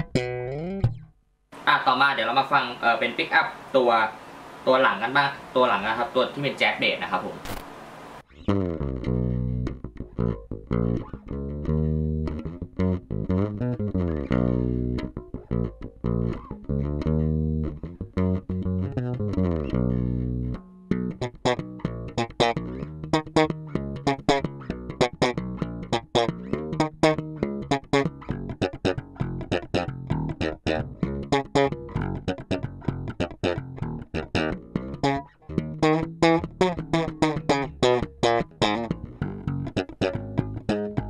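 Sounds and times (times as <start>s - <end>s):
electric bass playing solo: 0.0s - 1.2s, 8.3s - 41.0s.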